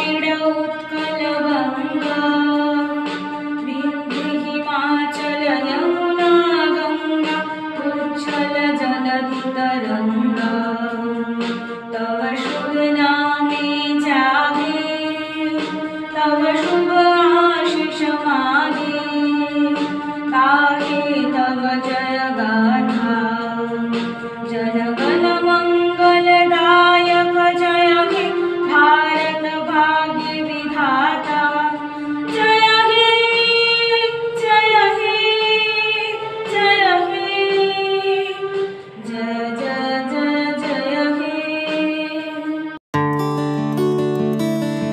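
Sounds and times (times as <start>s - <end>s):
woman singing a slow song: 0.0s - 42.7s.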